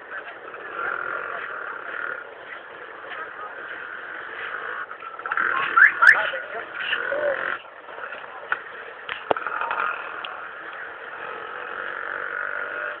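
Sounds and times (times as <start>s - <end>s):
distant voices: 0.0s - 13.0s
traffic: 0.0s - 13.0s.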